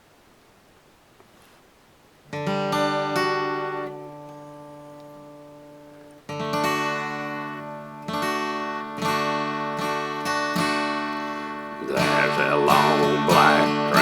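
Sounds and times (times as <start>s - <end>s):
acoustic guitar strumming: 2.3s - 14.0s.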